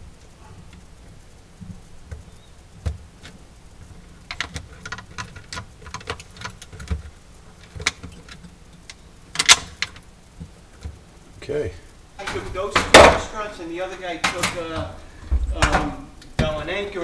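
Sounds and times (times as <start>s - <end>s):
connectors clicking and rustling: 0.0s - 17.0s.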